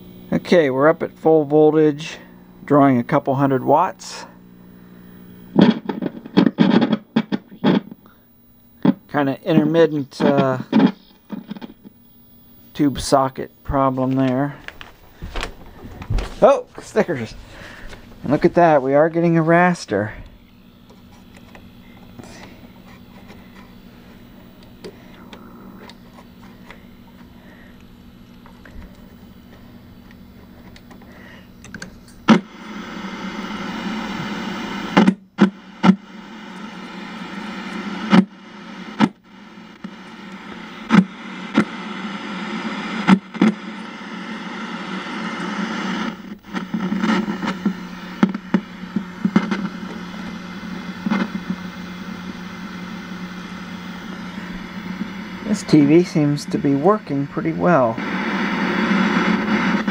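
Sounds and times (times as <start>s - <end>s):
low steady hum: 0.0s - 59.9s
television static hiss: 0.0s - 59.9s.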